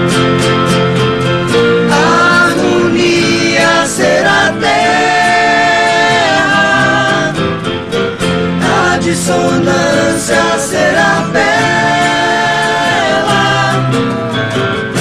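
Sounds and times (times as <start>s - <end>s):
acoustic guitars: 0.0s - 15.0s
keyboard: 0.0s - 15.0s
voices singing harmonies: 1.6s - 14.6s.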